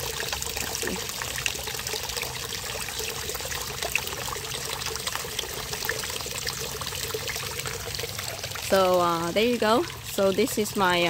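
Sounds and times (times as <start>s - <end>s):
faint pump hum: 0.0s - 11.0s
fountain water splashing: 0.0s - 11.0s.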